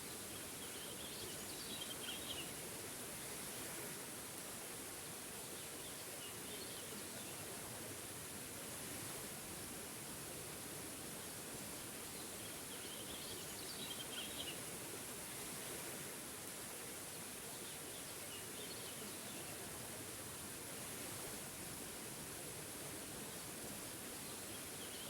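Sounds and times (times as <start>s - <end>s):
small waterfall rushing: 0.0s - 25.0s.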